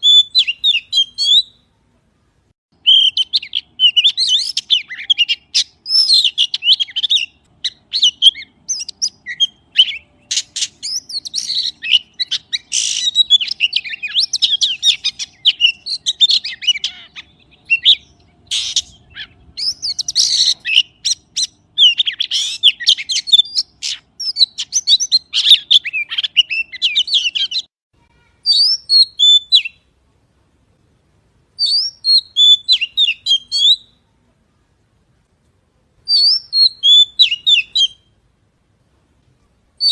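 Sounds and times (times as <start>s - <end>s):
magpie singing: 0.0s - 1.7s, 2.8s - 27.7s, 28.4s - 29.9s, 31.6s - 34.0s, 36.1s - 38.2s.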